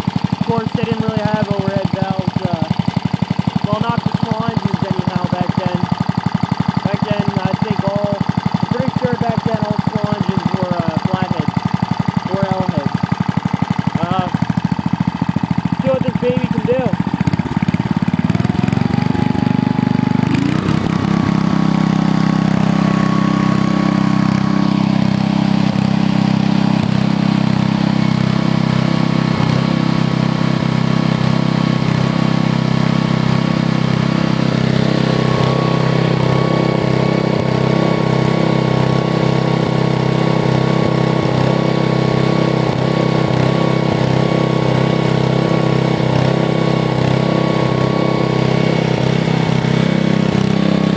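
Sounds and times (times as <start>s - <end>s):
small engine speeding up: 0.0s - 50.9s.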